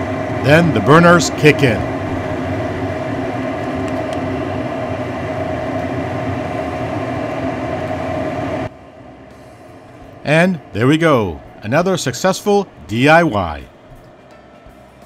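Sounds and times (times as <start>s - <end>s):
draft inducer fan whir: 0.0s - 15.0s
gas furnace running: 0.0s - 15.0s.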